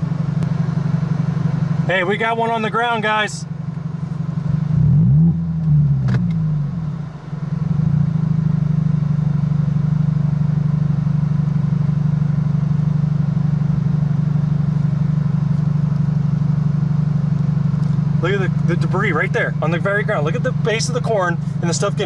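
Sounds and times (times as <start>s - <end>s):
car engine droning: 0.0s - 22.0s
road noise inside car: 0.0s - 22.0s.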